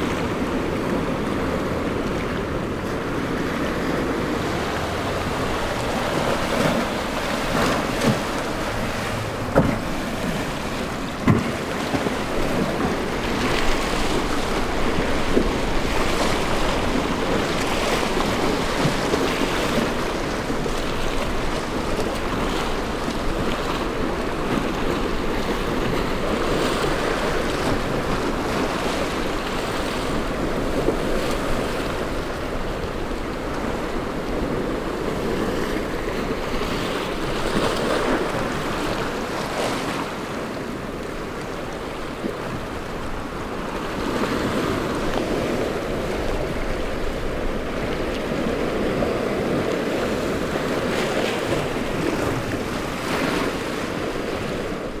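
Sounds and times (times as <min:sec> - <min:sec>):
ocean waves breaking: 0:00.0 - 0:55.0
wind buffeting microphone: 0:00.0 - 0:55.0.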